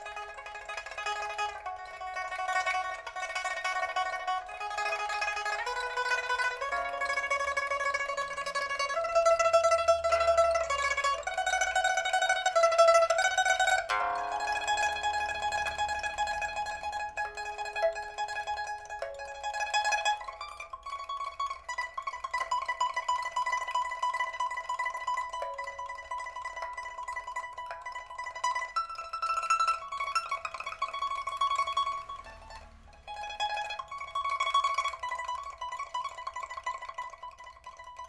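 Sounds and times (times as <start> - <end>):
lute melody: 0.0 - 38.0.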